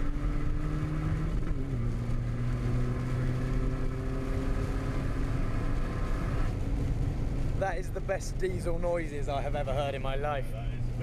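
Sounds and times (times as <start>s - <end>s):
low road rumble: 0.0s - 11.0s.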